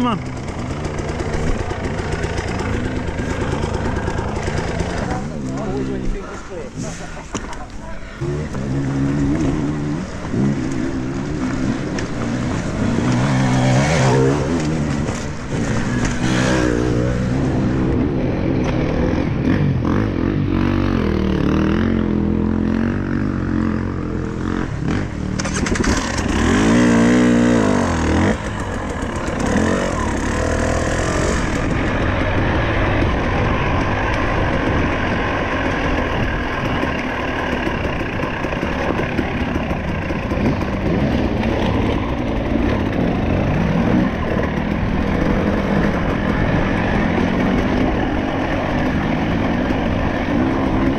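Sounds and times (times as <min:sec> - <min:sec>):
dirt bike engine revving: 0:00.0 - 0:06.3, 0:08.1 - 0:50.9.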